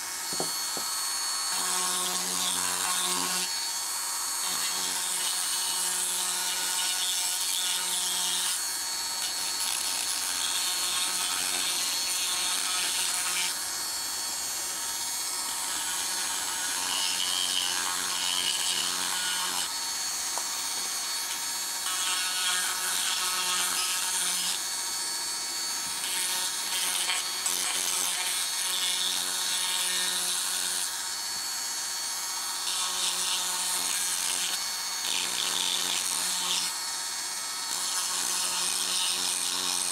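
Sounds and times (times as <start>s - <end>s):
rotary tool motor whine: 0.0s - 39.9s.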